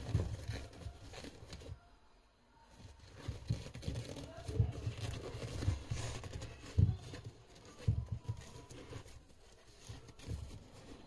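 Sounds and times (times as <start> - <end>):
faint rubbing and rustling: 0.0 - 2.0, 2.6 - 11.0.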